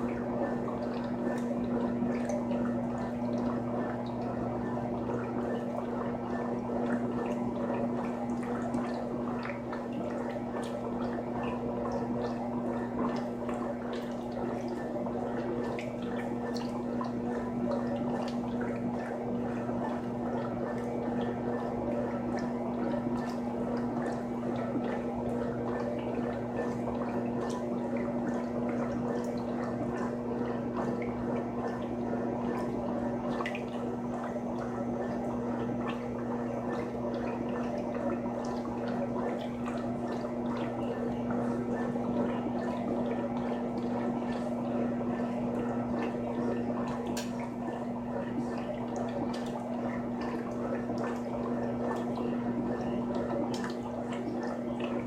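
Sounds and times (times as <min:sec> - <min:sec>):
washing machine electric hum: 0:00.0 - 0:55.0
water gurgling and dripping: 0:00.0 - 0:55.0.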